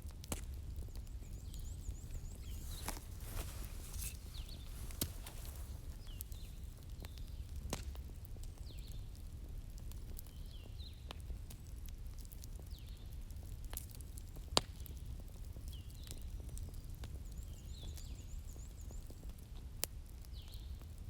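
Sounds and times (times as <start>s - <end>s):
wood fire crackling: 0.1s - 17.5s.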